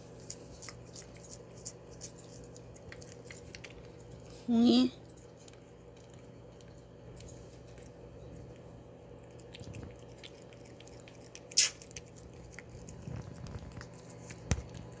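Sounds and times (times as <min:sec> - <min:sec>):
cat licking and chewing: 0:00.0 - 0:15.0.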